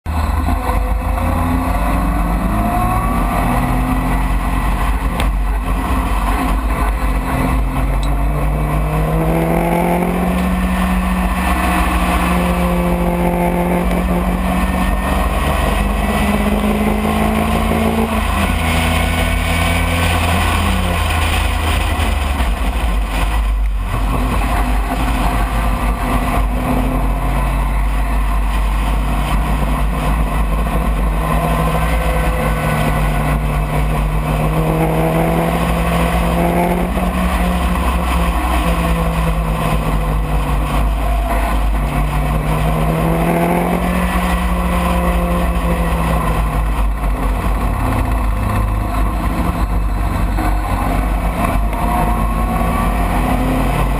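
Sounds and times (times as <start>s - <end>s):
race car engine revving: 0.0s - 53.9s
wind and road rumble: 0.0s - 53.9s.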